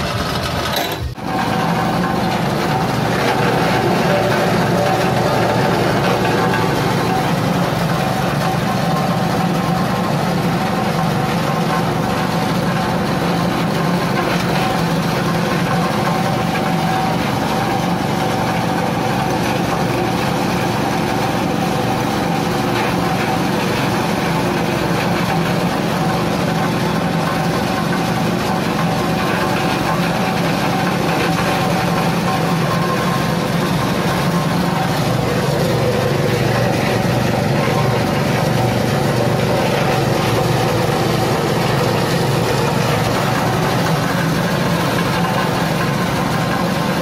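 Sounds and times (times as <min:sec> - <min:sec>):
small petrol engine running: 0:00.0 - 0:47.0.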